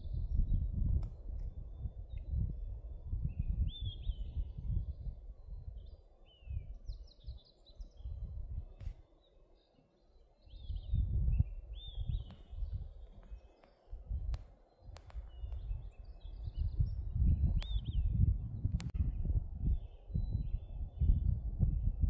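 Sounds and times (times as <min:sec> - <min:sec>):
wind gusting on microphone: 0:00.0 - 0:09.0, 0:10.5 - 0:22.0
small birds chirping: 0:00.0 - 0:21.3.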